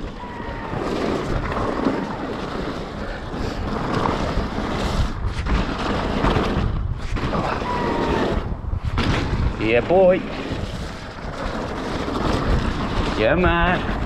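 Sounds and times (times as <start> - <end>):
bike tyres rumbling on dirt: 0.0 - 14.0
wind buffeting microphone: 0.0 - 14.0.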